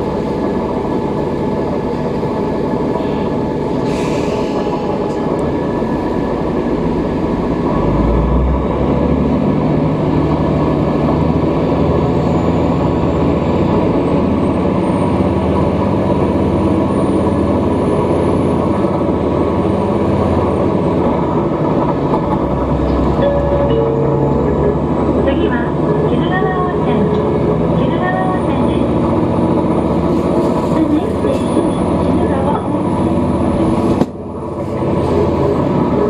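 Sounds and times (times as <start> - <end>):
train motors and wheels rumbling: 0.0 - 36.0.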